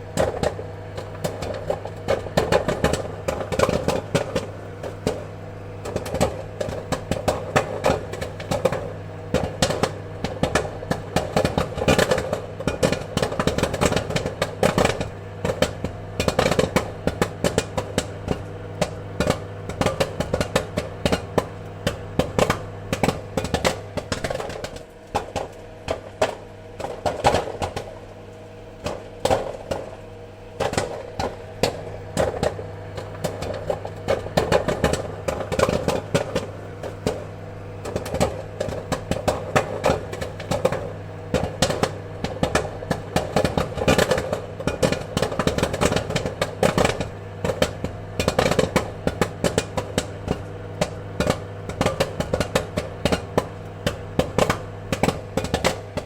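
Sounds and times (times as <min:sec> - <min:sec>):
popcorn popping: 0:00.0 - 0:56.0
steady low hum: 0:00.0 - 0:56.0.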